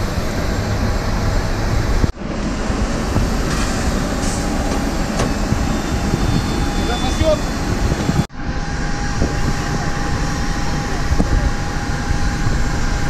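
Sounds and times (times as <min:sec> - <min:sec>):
jet engine rumble and hiss: 0:00.0 - 0:13.0
wind buffeting microphone: 0:00.0 - 0:13.0.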